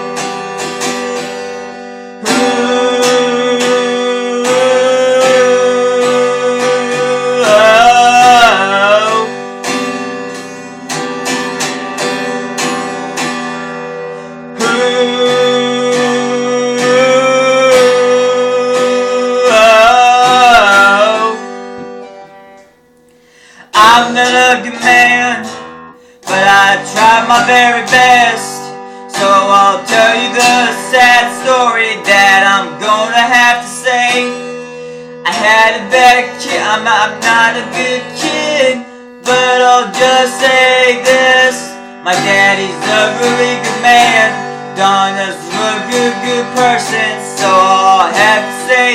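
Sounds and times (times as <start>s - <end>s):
acoustic guitar song: 0.0s - 48.9s
person singing: 2.0s - 10.8s, 14.2s - 22.4s, 23.6s - 48.9s.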